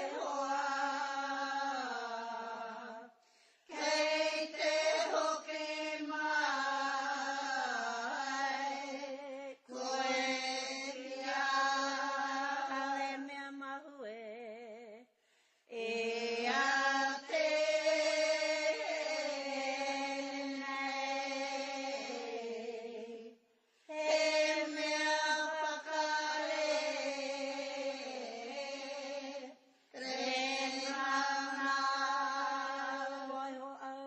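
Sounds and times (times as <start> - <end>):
person chanting in held notes: 0.0 - 15.0, 15.7 - 34.0.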